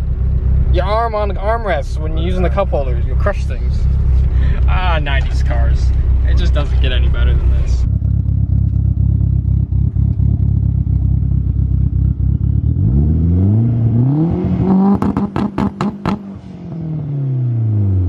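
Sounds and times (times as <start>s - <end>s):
exhaust cracks: 0.0s - 16.9s
turbo car engine revving: 0.0s - 18.0s.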